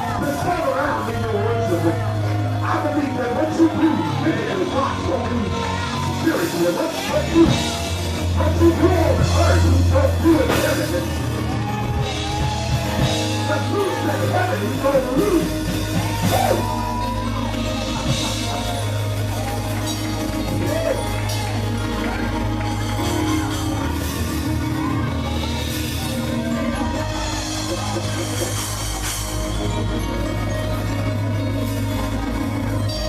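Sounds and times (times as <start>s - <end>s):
congregation singing and shouting: 0.0s - 33.0s
live praise band: 0.0s - 33.0s.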